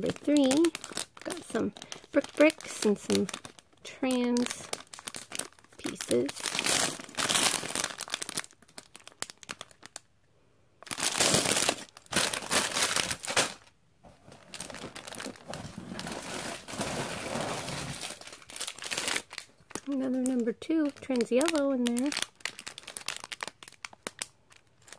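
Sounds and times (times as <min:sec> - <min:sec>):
plastic bags crinkling: 0:00.0 - 0:10.1, 0:10.8 - 0:24.9.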